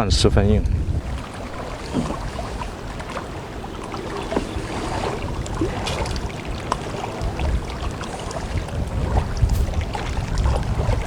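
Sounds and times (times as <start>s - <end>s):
choppy water: 0.0s - 11.0s
wind: 0.0s - 11.0s.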